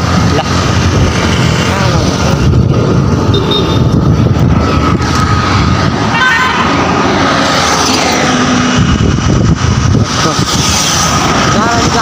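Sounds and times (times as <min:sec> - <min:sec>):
road traffic noise: 0:00.0 - 0:12.0
wind rumble on microphone: 0:00.0 - 0:12.0.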